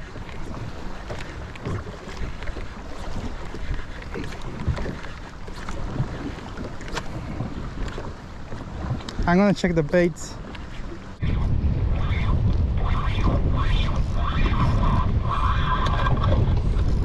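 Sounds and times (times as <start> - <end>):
water lapping against boat hull: 0.0 - 17.0
wind buffeting microphone: 0.0 - 17.0.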